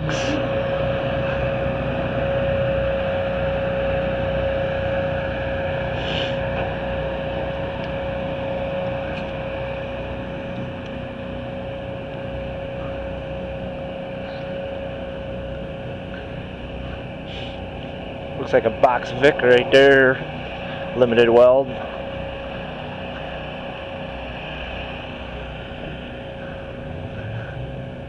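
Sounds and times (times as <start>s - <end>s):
constant whine: 0.0s - 28.0s
engine running steadily: 0.0s - 28.0s.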